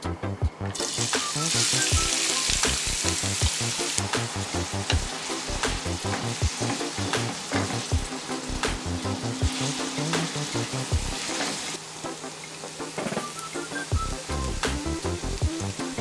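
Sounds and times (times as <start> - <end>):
onions sizzling in hot oil: 0.8 - 16.0.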